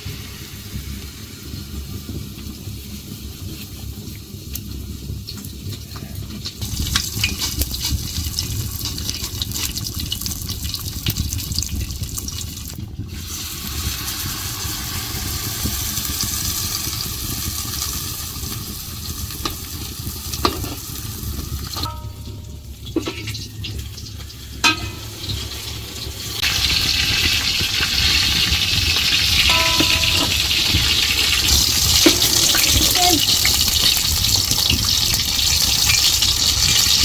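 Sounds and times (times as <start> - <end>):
food sizzling in hot oil: 0.0 - 5.8, 6.4 - 37.0.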